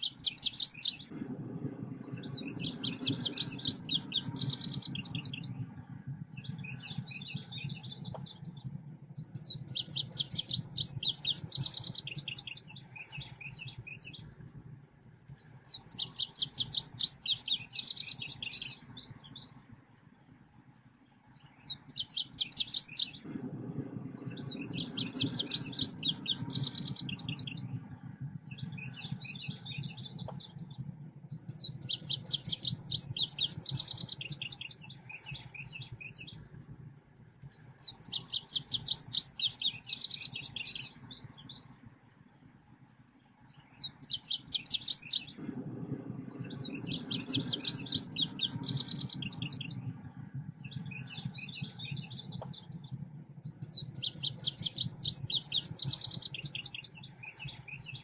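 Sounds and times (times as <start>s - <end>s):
bird chirping trills: 0.0s - 14.4s, 15.3s - 20.3s, 21.0s - 58.0s
low steady hum: 0.0s - 58.0s.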